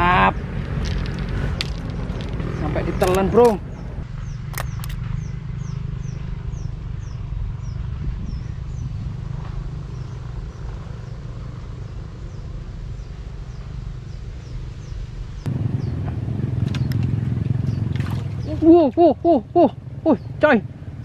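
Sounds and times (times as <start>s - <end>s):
bird chirping: 2.0s - 20.4s.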